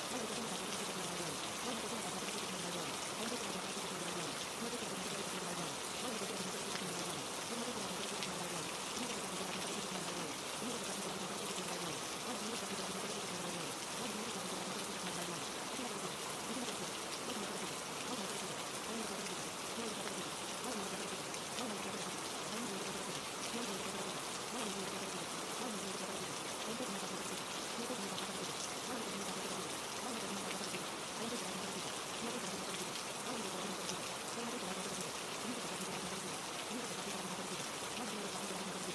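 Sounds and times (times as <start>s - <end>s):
steady rain falling: 0.0s - 38.9s
faint murmuring voices: 0.1s - 38.9s.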